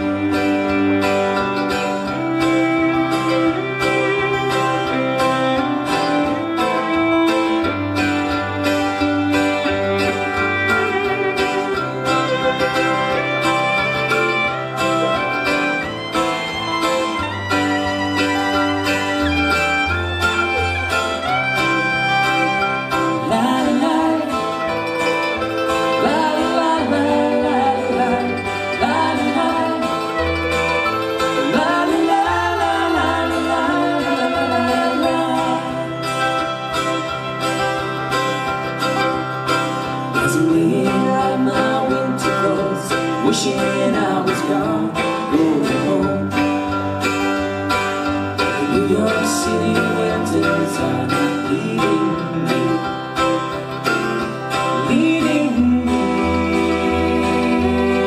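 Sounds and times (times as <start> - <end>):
acoustic guitars strumming: 0.0 - 58.0
mandolin: 0.0 - 58.0
sliding melody with vibrato: 0.0 - 58.0
violin: 0.0 - 58.0.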